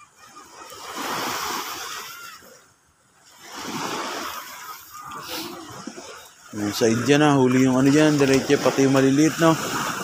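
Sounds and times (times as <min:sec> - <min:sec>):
small waves washing up beach: 0:00.0 - 0:10.0.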